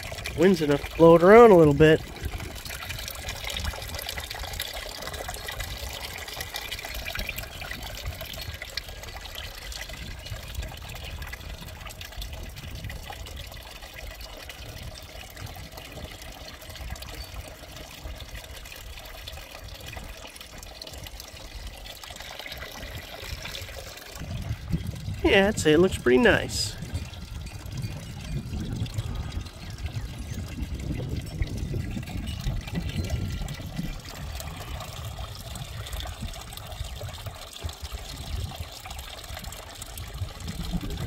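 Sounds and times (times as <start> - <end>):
wind rumble on microphone: 0.0 - 21.9, 22.6 - 41.0
fountain water trickling and splashing: 0.0 - 41.0.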